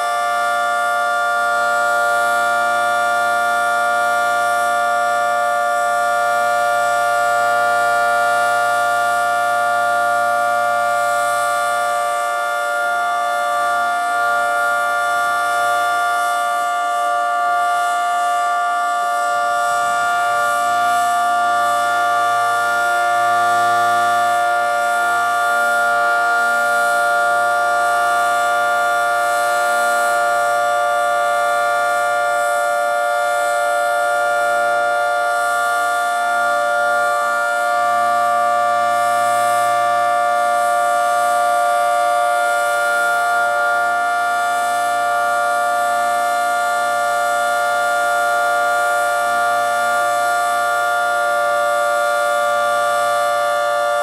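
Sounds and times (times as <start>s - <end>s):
dual-tone siren: 0.0s - 54.0s.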